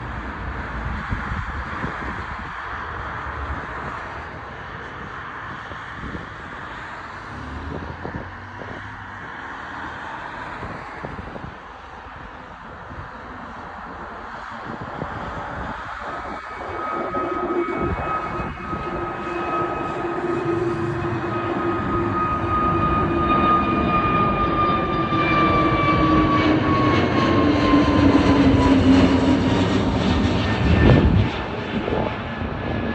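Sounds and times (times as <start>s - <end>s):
distant jet engines: 0.0s - 32.9s
wind buffeting microphone: 0.0s - 32.9s.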